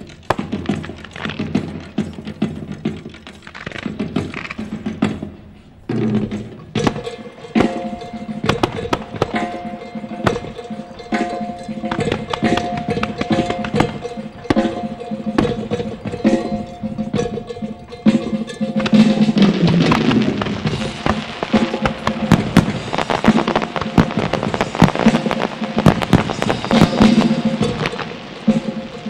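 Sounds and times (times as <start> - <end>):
held musical notes: 0.0 - 29.0
sharp percussive hits: 0.0 - 29.0.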